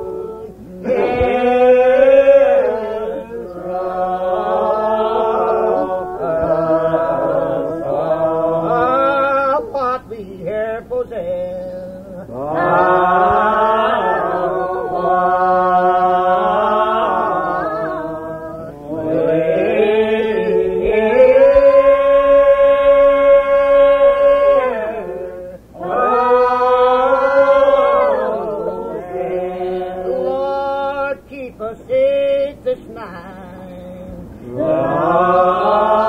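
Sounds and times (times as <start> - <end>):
unaccompanied hymn singing: 0.0 - 36.0.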